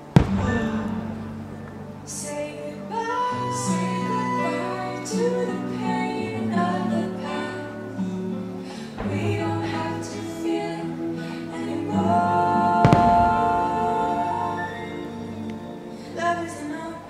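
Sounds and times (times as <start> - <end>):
melodic soundtrack music: 0.0 - 17.0.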